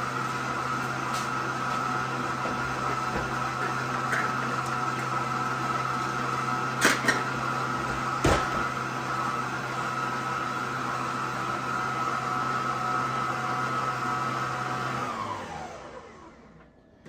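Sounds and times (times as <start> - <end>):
stand mixer motor humming: 0.0 - 16.6.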